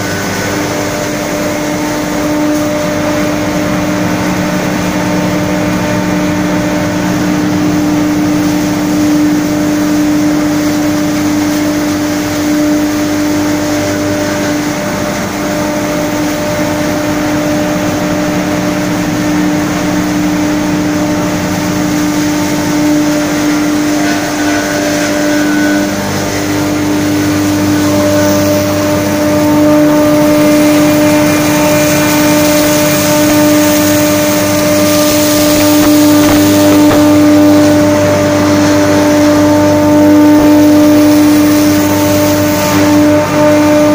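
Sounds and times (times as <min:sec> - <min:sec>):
straw shredding machine humming: 0:00.0 - 0:43.9.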